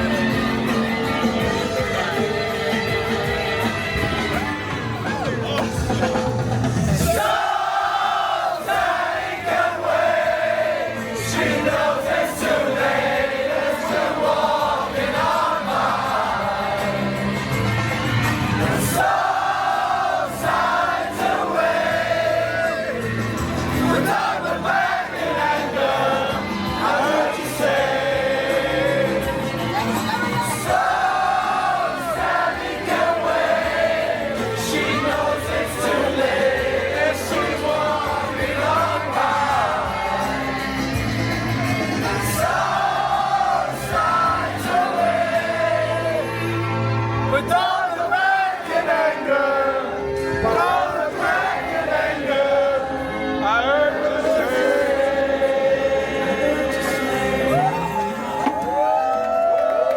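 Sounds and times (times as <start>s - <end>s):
crowd singing along: 0.0s - 59.0s
loud party music: 0.0s - 59.9s.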